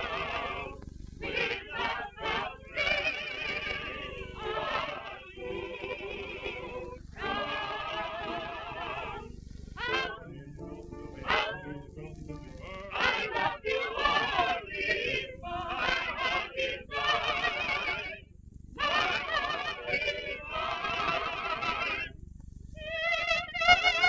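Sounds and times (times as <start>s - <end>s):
voices singing with vibrato: 0.0s - 18.2s, 18.8s - 22.1s.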